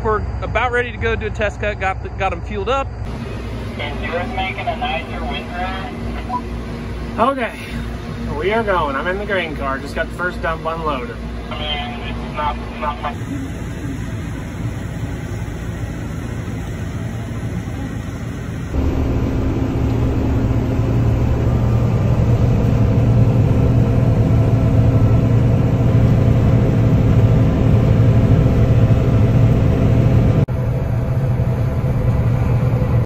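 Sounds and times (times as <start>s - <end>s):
diesel machinery humming: 0.0s - 33.0s.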